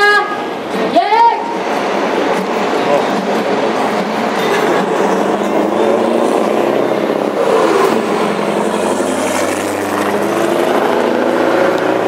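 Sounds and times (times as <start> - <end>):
truck diesel engines passing: 0.0 - 12.0.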